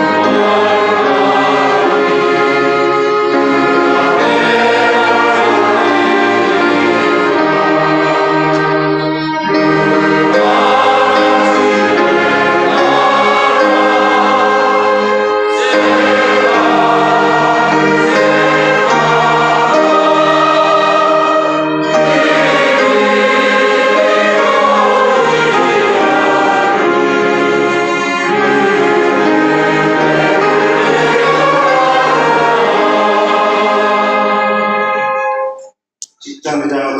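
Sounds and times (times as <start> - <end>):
choir singing: 0.0 - 35.6
orchestra playing: 0.0 - 35.7.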